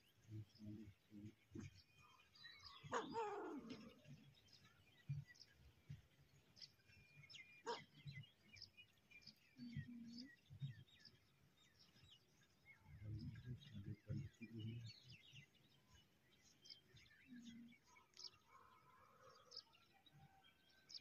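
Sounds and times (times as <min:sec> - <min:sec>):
small bird chirps: 0:00.0 - 0:21.0.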